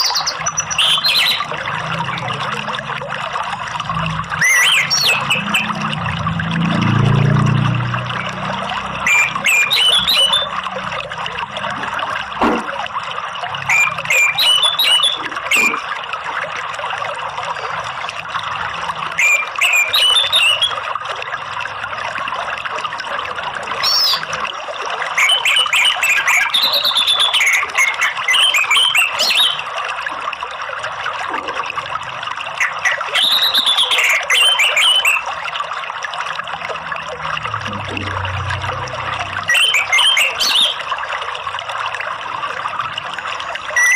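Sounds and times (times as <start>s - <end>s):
water flowing: 0.0s - 43.9s.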